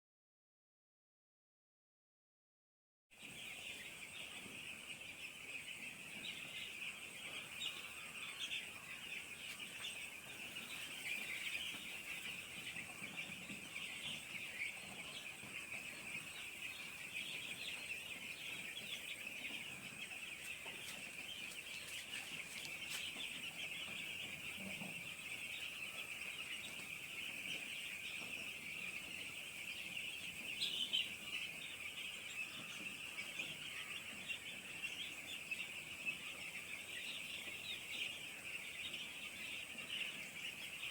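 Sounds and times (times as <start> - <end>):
chicks peeping: 3.2 - 40.9.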